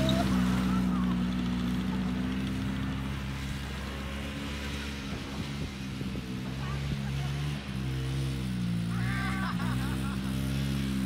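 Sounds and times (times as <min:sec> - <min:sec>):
snowmobile engine running: 0:00.0 - 0:11.0.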